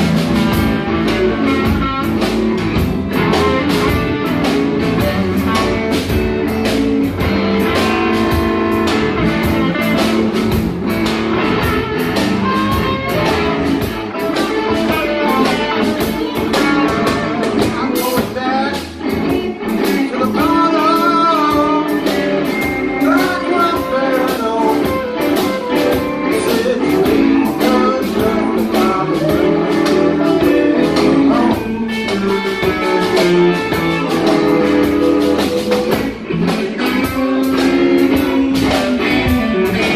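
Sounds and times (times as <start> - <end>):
electric guitar lead lines: 0.0 - 39.9
live blues band playing: 0.0 - 39.9.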